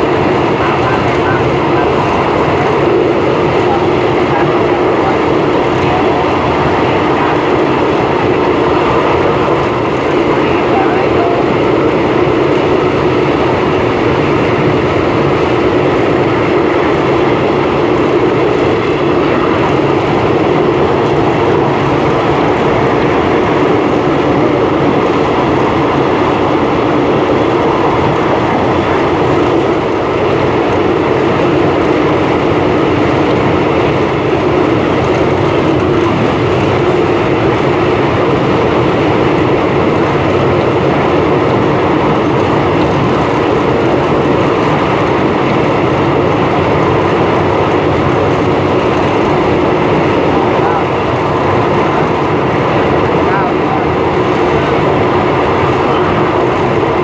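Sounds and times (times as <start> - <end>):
train wheel and rail noise: 0.0 - 57.0
wind rushing: 0.0 - 57.0.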